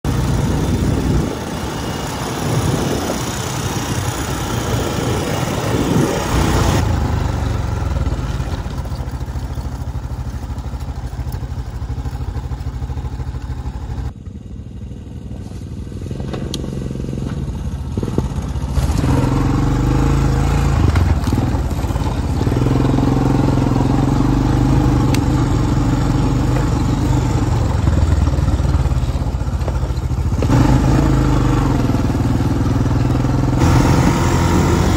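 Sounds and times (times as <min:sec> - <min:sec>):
quad engine running: 0:00.0 - 0:34.9.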